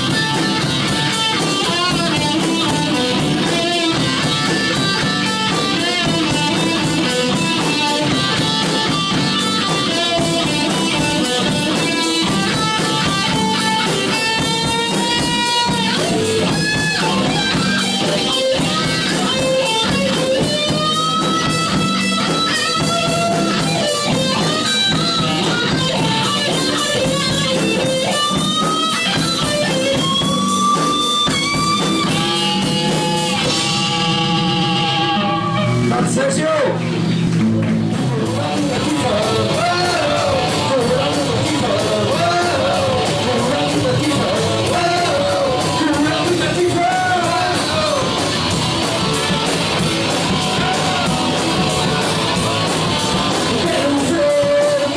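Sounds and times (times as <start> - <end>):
bass: 0.0 - 54.9
drums: 0.0 - 54.9
electric guitar solo: 0.0 - 54.9.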